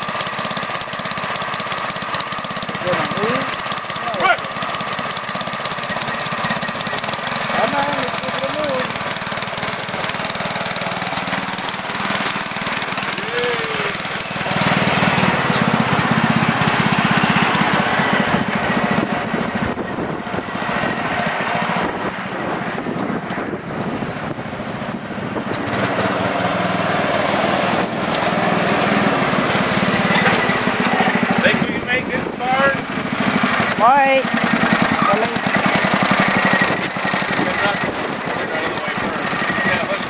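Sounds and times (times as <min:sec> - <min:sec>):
truck engine running choppy: 0:00.0 - 0:40.0.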